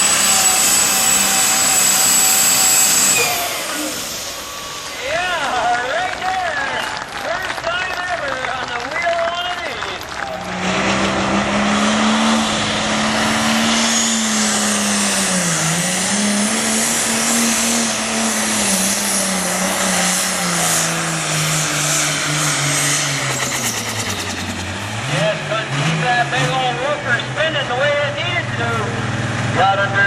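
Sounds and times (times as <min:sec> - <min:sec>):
diesel tractor engine under load: 0:00.0 - 0:30.0
high turbo whine: 0:00.0 - 0:30.0.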